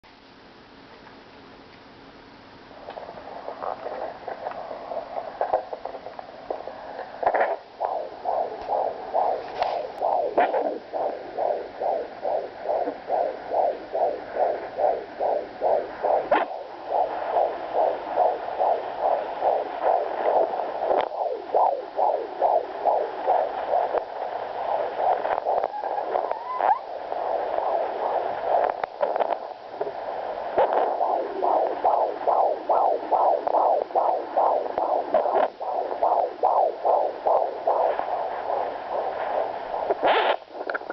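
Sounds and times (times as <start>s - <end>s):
steady hum: 0.0s - 40.9s
fetal heartbeat pulsing: 2.9s - 40.9s.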